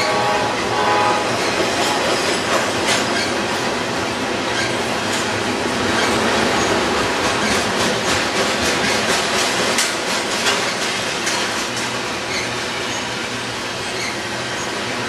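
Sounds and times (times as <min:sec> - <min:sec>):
rumble of train wheels on rail: 0:00.0 - 0:15.0
wheels clacking over rail joints: 0:00.6 - 0:13.2.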